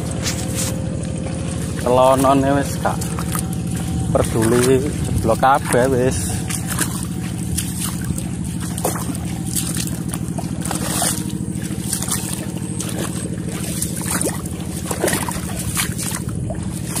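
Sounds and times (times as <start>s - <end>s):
diesel engine puttering: 0.0s - 17.0s
splashes in mud: 0.0s - 17.0s.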